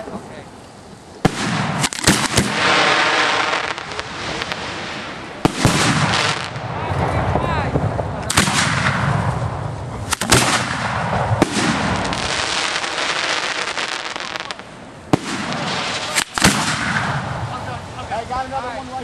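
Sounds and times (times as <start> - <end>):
fireworks crackling: 0.0 - 19.0
fireworks sharp reports: 1.2 - 19.0.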